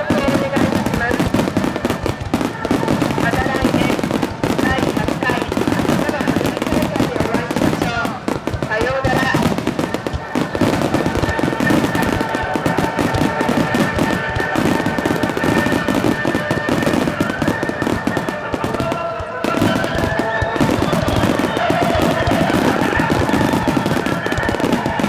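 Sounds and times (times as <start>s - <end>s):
fireworks bangs and crackling: 0.0s - 25.0s
steady tones: 0.0s - 25.0s.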